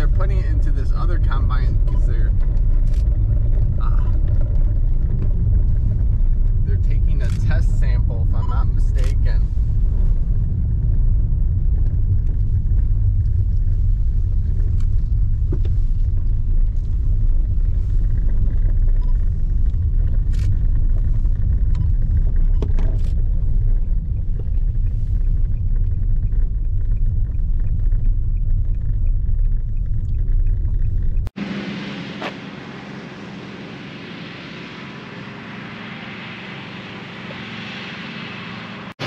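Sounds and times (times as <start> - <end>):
car cabin road rumble: 0.0 - 39.0.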